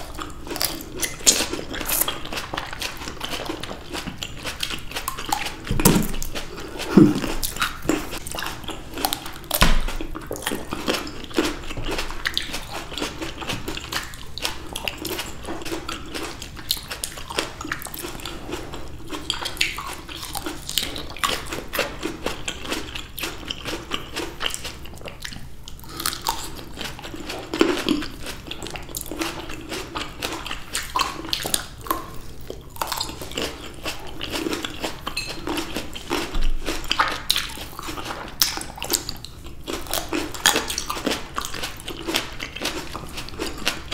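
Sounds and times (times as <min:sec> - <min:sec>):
grapes being chewed: 0:00.0 - 0:43.9.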